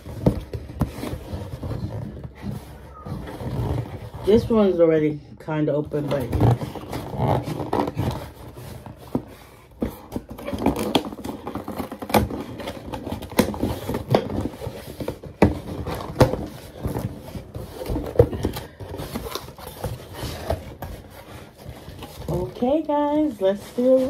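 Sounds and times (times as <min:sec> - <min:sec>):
cardboard scraping and rustling: 0:00.0 - 0:04.8, 0:05.9 - 0:24.0.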